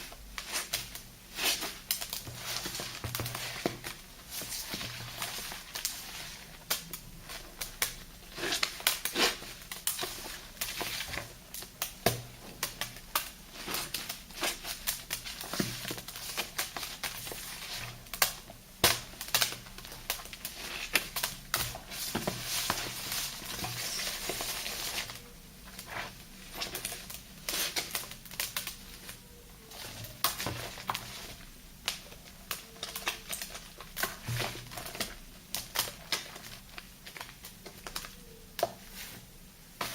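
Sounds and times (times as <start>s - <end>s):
gritty soap paste squishing: 0.0s - 39.9s.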